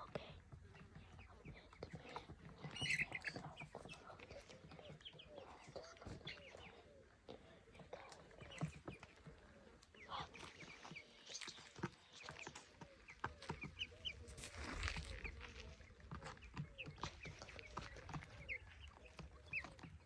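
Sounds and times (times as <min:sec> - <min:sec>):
animal chirps and clucks: 0:00.0 - 0:20.0.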